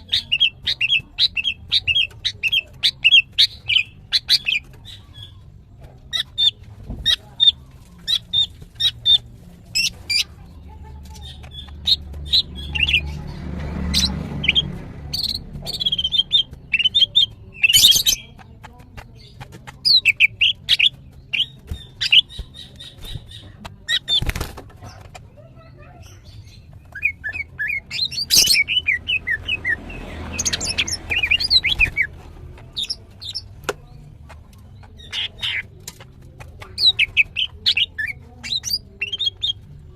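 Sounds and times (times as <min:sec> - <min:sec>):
bird chirping and chattering: 0:00.0 - 0:39.9.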